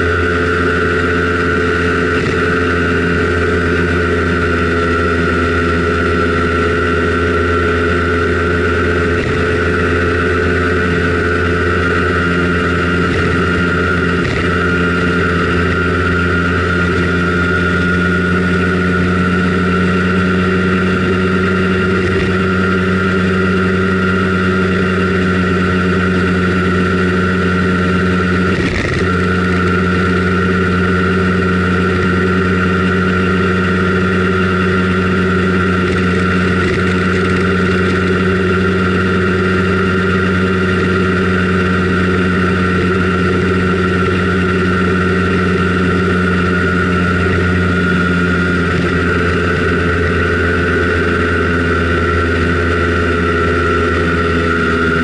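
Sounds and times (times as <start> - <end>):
two-stroke engine running: 0.0 - 55.0.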